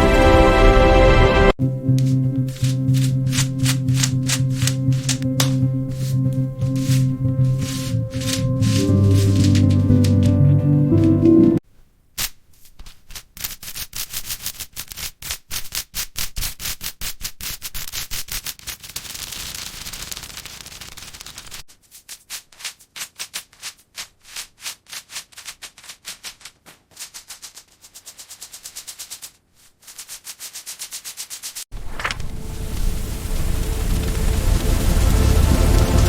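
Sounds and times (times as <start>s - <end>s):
hands rubbing matchsticks: 2.0s - 11.3s, 12.2s - 32.2s.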